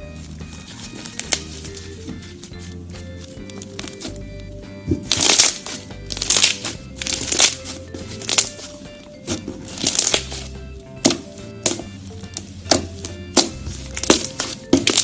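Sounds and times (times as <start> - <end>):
background music: 0.0 - 15.0
slime crackling: 0.6 - 4.2, 4.9 - 15.0.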